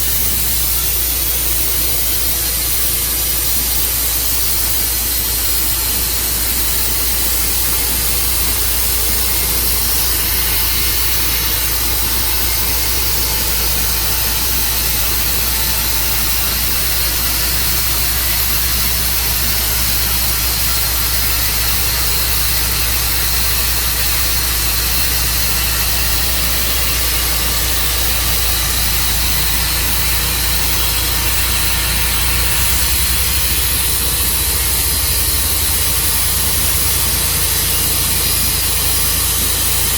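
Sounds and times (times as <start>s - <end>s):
sawmill engine and blade running: 0.0s - 39.9s.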